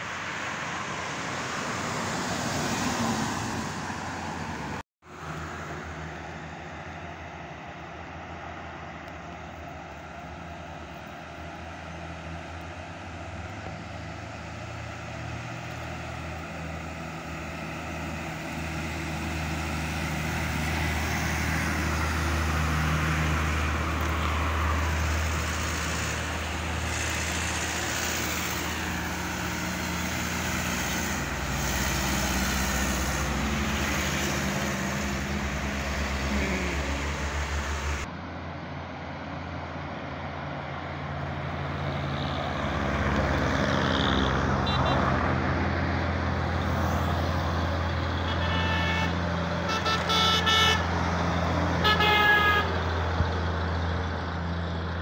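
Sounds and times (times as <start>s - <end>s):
road traffic: 0.0s - 55.0s
truck diesel engine passing: 0.0s - 55.0s.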